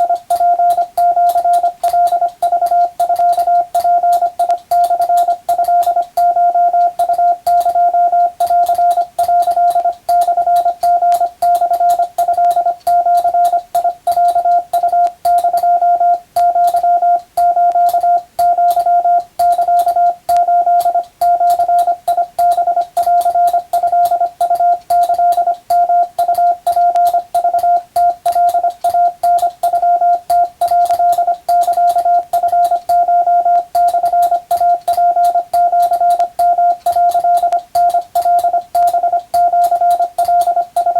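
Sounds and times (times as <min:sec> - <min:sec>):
morse code tone: 0:00.0 - 0:40.9.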